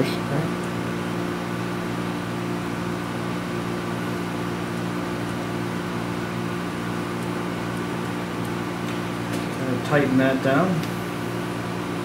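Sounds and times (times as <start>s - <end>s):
machine electrical hum: 0.0s - 12.0s.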